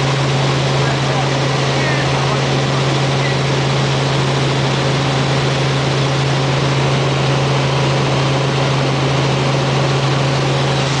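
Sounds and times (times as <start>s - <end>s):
helicopter engine and rotors droning: 0.0s - 11.0s.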